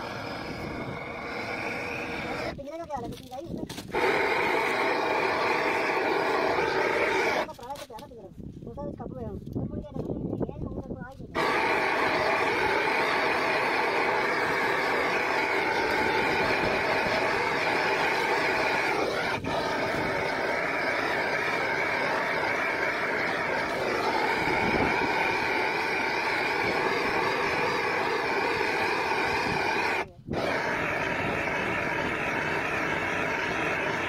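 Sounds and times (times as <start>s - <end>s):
gas torch roaring: 0.0s - 2.6s, 3.8s - 7.5s, 11.3s - 34.0s.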